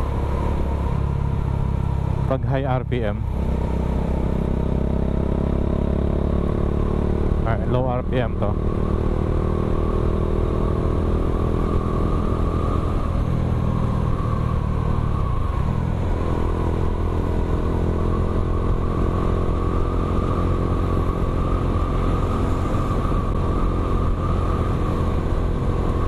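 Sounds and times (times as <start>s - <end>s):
motorcycle engine running at low revs: 0.0s - 26.0s.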